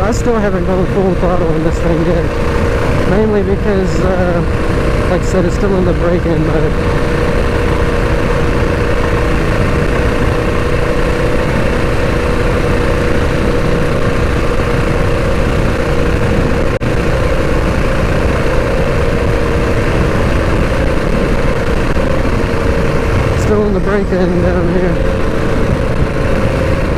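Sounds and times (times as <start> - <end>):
mini bike engine running: 0.0 - 26.9.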